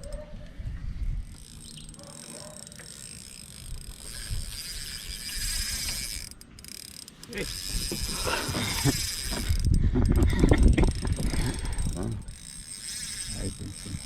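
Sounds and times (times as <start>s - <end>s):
fishing reel whirring: 1.2s - 14.0s.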